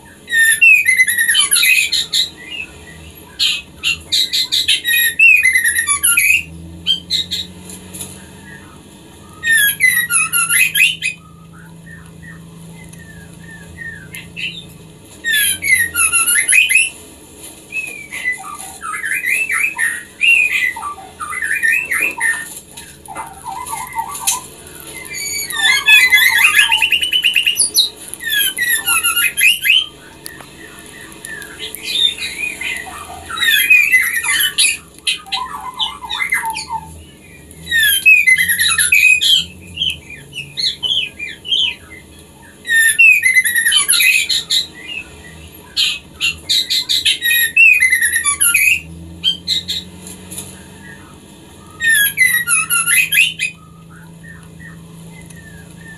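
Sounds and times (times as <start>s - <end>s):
bird chattering call: 0.0s - 7.6s, 8.2s - 17.0s, 17.7s - 49.9s, 50.6s - 55.9s.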